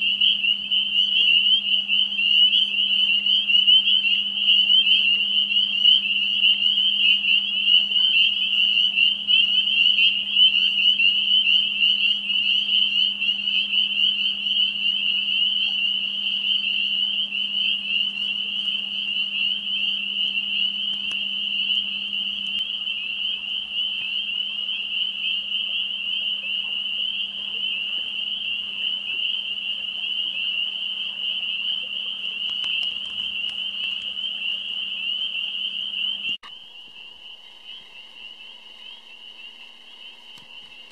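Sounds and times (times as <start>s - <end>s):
frogs peeping chorus: 0.0s - 40.9s.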